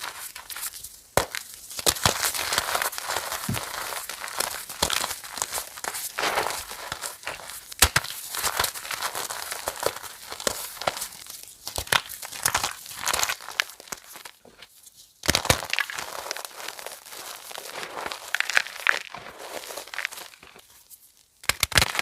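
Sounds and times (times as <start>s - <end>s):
chalk crunching and crumbling: 0.0s - 22.0s.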